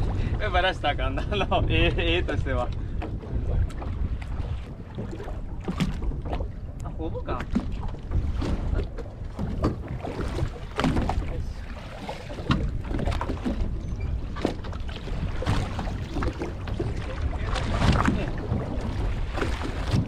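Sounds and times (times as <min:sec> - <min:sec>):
water sloshing along hull: 0:00.0 - 0:20.0
wind buffeting microphone: 0:00.0 - 0:20.0.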